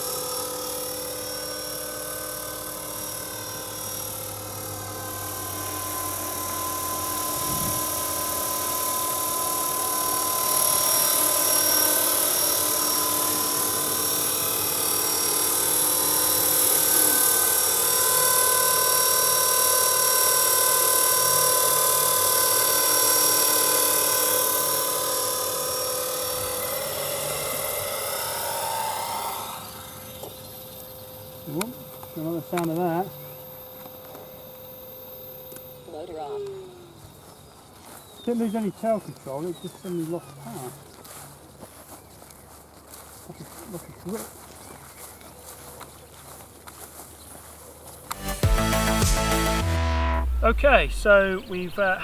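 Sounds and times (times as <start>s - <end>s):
model helicopter whine and rotor: 0.0s - 49.6s.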